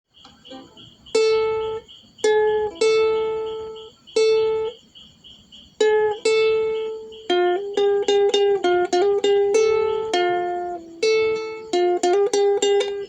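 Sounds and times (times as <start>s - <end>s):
ukulele plucked melody: 0.2s - 4.8s, 5.8s - 13.0s.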